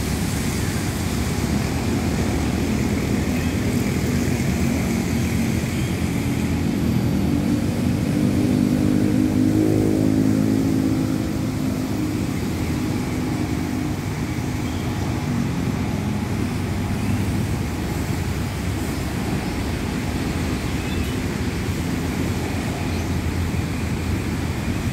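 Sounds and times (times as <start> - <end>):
helicopters droning: 0.0 - 24.9
steady background rush: 0.0 - 24.9.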